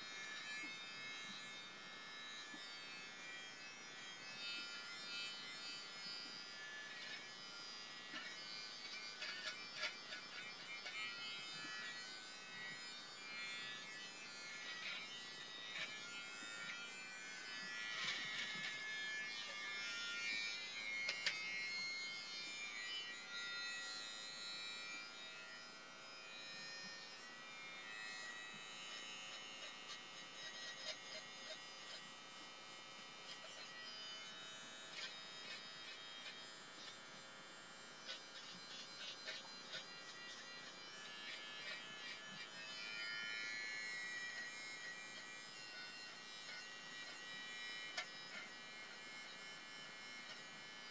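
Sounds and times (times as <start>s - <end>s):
beard trimmer buzzing: 0.0s - 50.9s.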